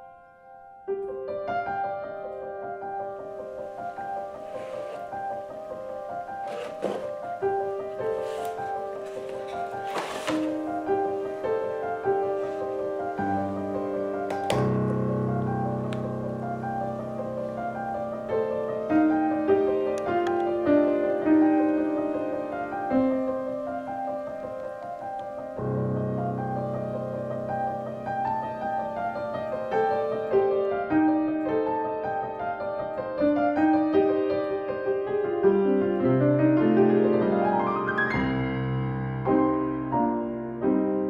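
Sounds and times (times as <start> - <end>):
slow piano music: 0.0 - 41.0.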